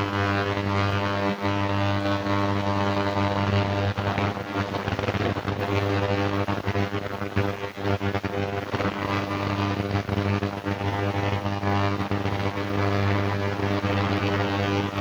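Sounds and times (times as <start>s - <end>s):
ultrasonic cleaner buzzing: 0.0s - 15.0s.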